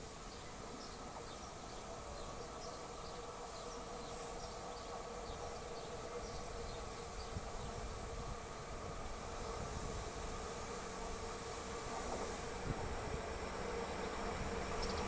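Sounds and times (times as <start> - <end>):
insects buzzing: 0.3 - 15.0.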